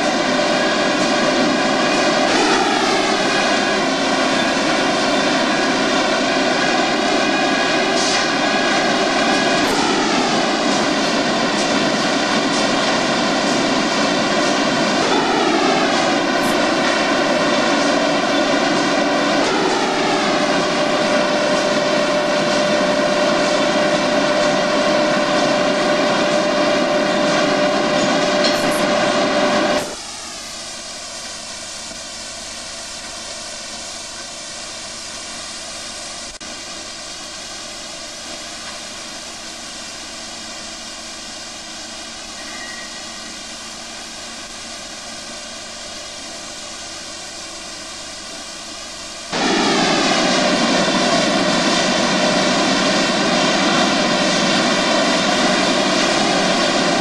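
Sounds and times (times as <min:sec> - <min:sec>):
industrial machinery droning: 0:00.0 - 0:57.0.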